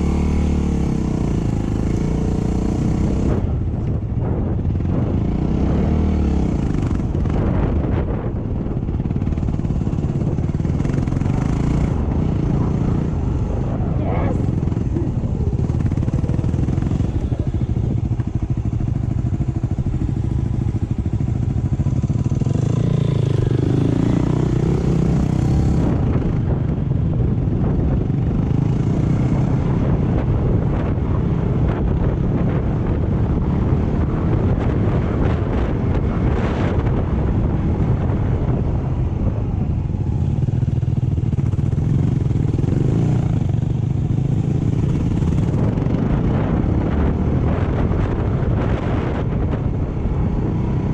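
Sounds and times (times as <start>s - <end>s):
off-road motorcycle engine: 0.0s - 50.9s.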